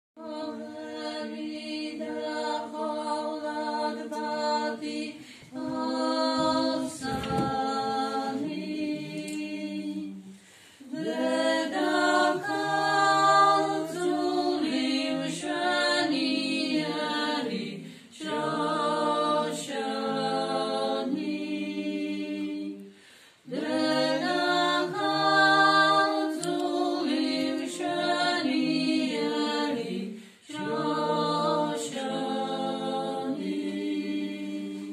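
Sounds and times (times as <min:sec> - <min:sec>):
women singing a hymn: 0:00.2 - 0:34.9.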